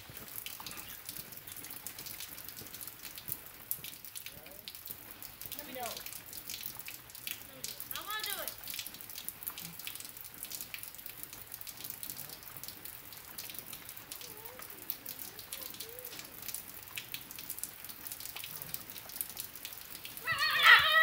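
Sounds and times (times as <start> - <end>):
faint steady hiss: 0.0 - 21.0
light rain pattering: 0.0 - 21.0.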